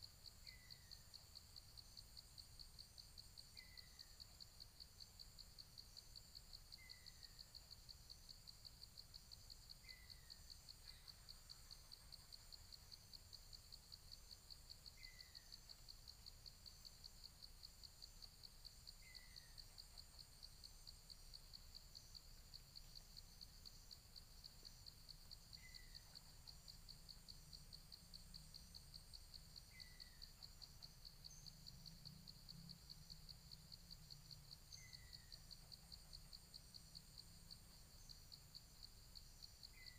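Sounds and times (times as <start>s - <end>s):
insects trilling: 0.0s - 39.9s
bird chirping: 0.3s - 5.1s, 6.6s - 8.6s, 9.2s - 39.9s.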